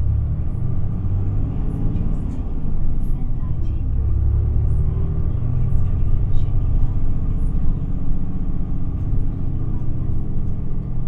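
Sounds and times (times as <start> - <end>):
bus diesel engine: 0.0 - 11.0
road noise: 0.0 - 11.0.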